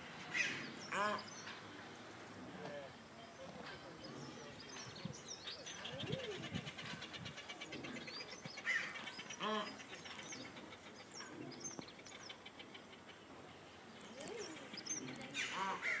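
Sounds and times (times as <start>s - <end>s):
small birds chirping: 3.1s - 16.0s.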